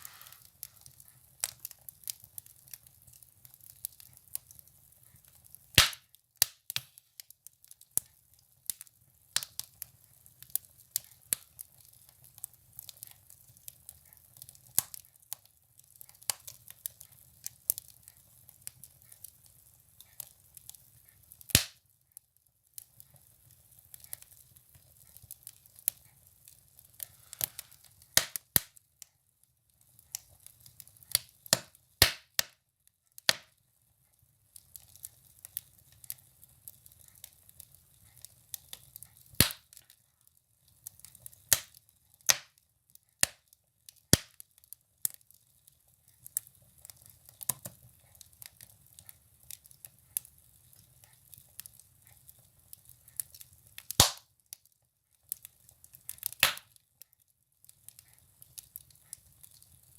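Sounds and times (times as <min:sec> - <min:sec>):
firewood crackling in a stove: 0:00.0 - 0:59.9.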